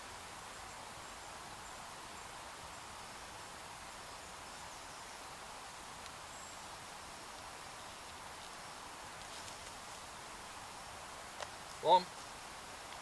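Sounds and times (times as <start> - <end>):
forest background hiss: 0.0 - 13.0.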